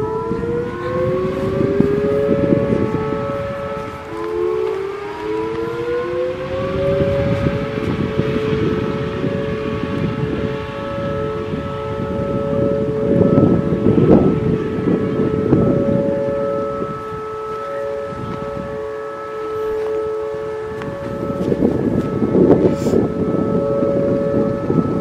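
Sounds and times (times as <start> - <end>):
two-tone mechanical siren: 0.0 - 25.0
wind buffeting microphone: 0.0 - 25.0.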